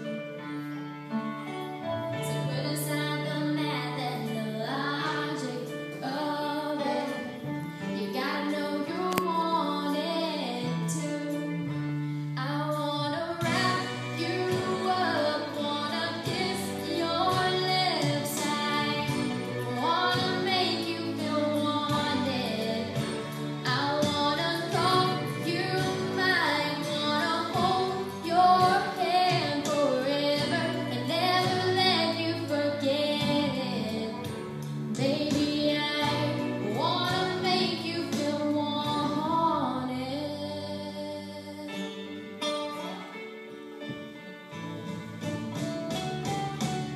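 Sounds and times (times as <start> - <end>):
instrumental accompaniment: 0.0 - 46.9
woman singing: 2.2 - 11.8, 12.4 - 43.2.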